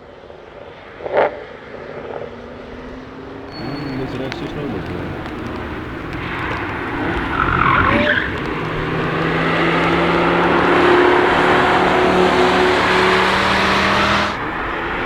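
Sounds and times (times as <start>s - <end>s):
car engine passing: 0.0s - 15.0s.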